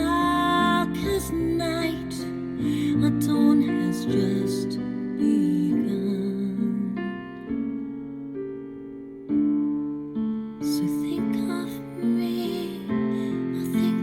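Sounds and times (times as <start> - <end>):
soft piano ballad from car speakers: 0.0 - 14.0.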